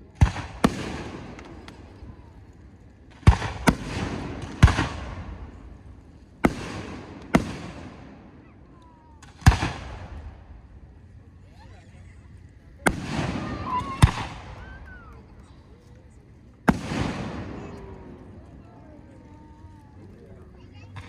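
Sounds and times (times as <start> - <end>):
fireworks bangs: 0.0 - 11.2, 12.1 - 18.8.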